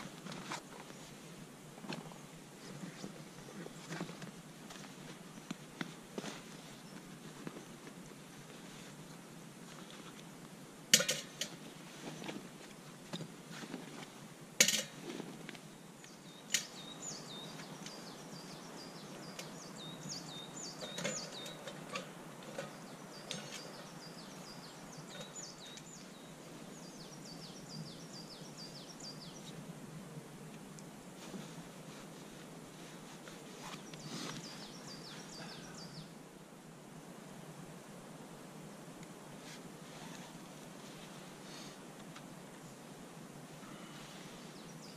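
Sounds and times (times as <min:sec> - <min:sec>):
songbird chirping: 0:00.0 - 0:29.8, 0:30.5 - 0:36.3, 0:43.6 - 0:44.9.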